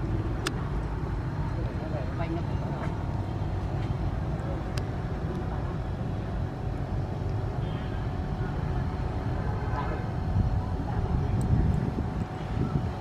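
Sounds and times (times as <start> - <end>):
faint distant voices: 0.0 - 13.0
low outdoor rumble: 0.0 - 13.0.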